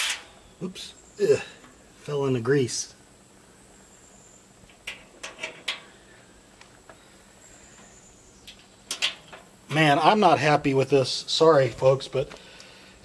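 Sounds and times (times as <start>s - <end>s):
faint high-pitched hum: 0.0s - 13.0s.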